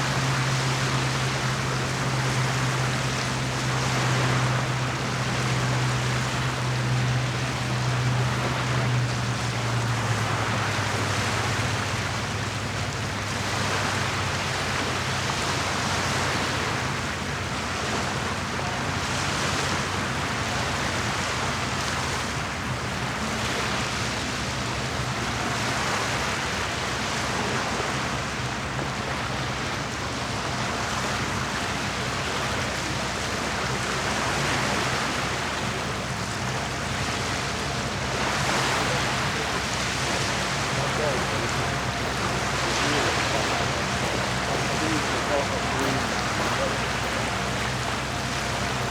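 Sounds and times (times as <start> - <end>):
lake waves lapping: 0.0 - 48.9
low motor hum: 0.0 - 48.9.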